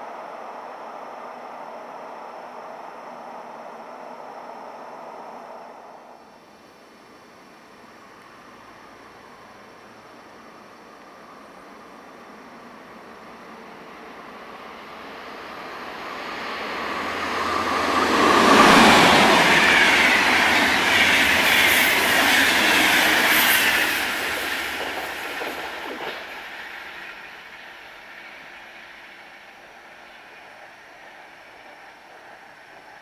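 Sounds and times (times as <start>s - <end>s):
train passing at speed: 0.0s - 33.0s.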